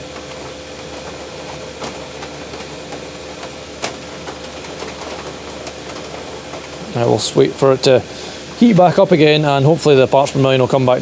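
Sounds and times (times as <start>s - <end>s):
air heater fan rushing: 0.0s - 11.0s.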